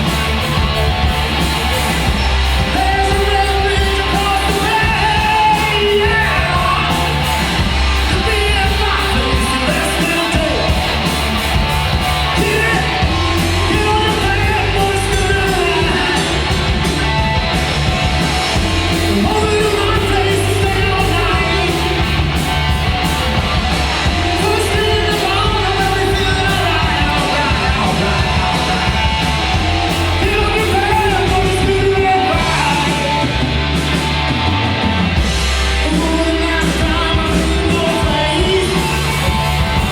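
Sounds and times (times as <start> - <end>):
hard rock band playing: 0.0 - 39.9
singer belting: 2.2 - 33.8, 35.7 - 39.9.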